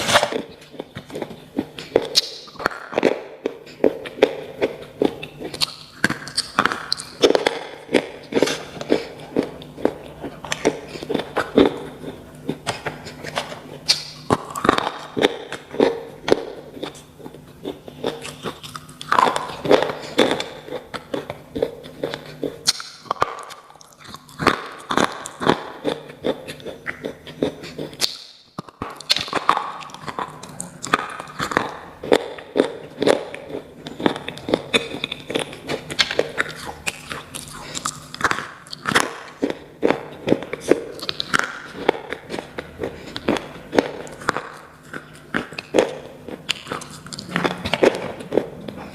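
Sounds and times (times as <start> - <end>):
low steady hum: 0.0 - 48.9
person chewing crunchy pencils: 0.0 - 48.9.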